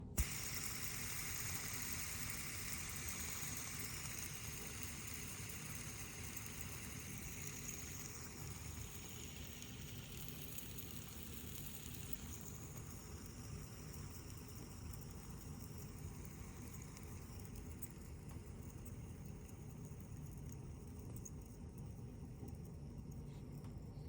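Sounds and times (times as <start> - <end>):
fidget spinner whirring: 0.0 - 24.0.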